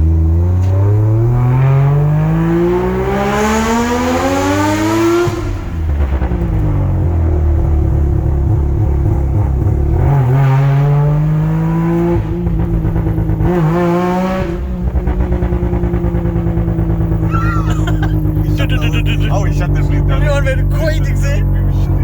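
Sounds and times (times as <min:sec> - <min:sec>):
rotary engine accelerating: 0:00.0 - 0:22.0.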